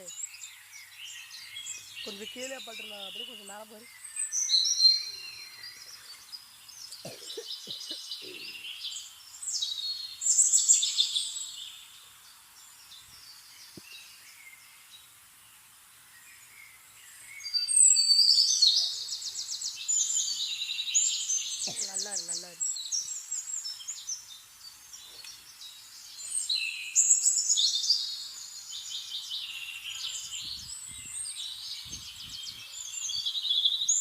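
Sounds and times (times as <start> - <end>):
birds singing and chirping: 0.0 - 34.0.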